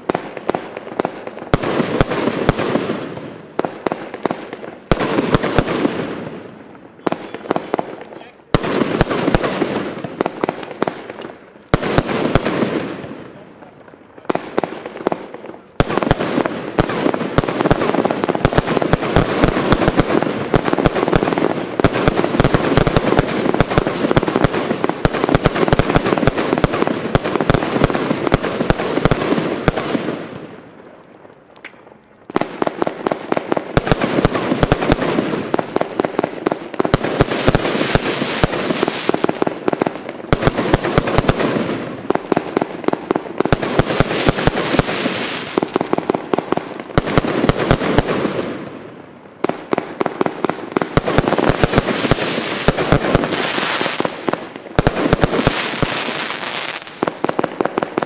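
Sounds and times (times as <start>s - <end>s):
fireworks shots and bursts: 0.0s - 58.0s.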